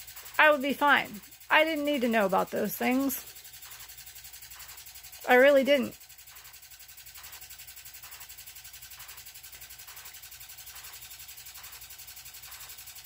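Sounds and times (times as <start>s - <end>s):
low background hum with flutter: 0.0s - 13.0s.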